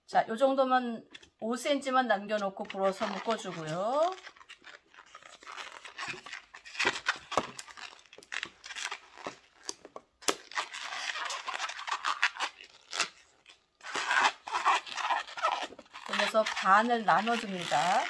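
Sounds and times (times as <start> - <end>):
balloon squeaks: 2.3 - 18.0
latex balloon rubbing and crackling: 2.3 - 18.0.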